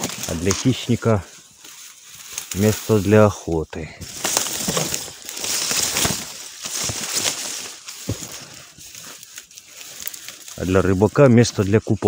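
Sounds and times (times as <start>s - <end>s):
dry reeds rustling and crackling: 0.0s - 12.0s.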